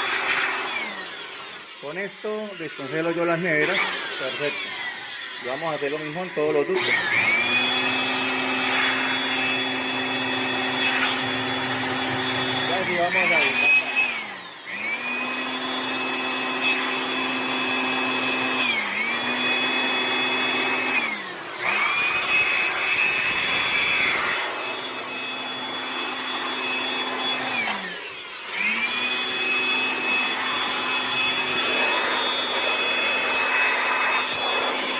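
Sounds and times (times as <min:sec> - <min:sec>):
electric blower whining: 0:00.0 - 0:34.9.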